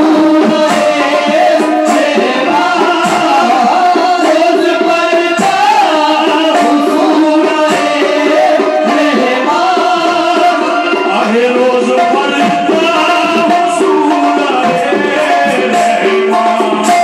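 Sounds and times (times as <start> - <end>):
harmonium chords: 0.0 - 17.0
man singing: 0.0 - 17.0.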